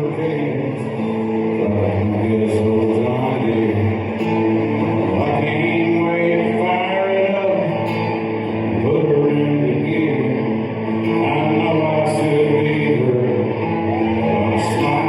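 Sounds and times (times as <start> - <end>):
live country band playing: 0.0 - 15.0
person singing: 0.0 - 15.0.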